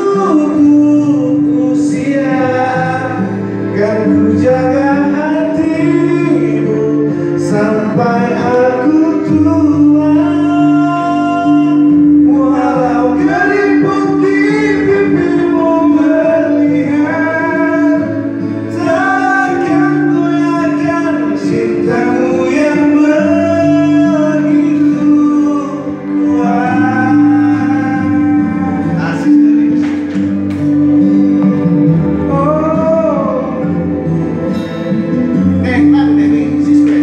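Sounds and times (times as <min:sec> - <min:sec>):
men singing into microphones: 0:00.0 - 0:30.4, 0:32.0 - 0:34.4, 0:35.6 - 0:37.0.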